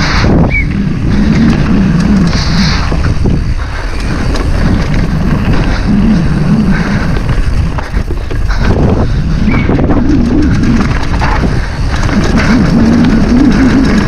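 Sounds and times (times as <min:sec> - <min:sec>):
bike knocking and rattling: 0:00.0 - 0:14.0
bike tyres rumbling on trail: 0:00.0 - 0:14.0
wind buffeting microphone: 0:00.0 - 0:14.0.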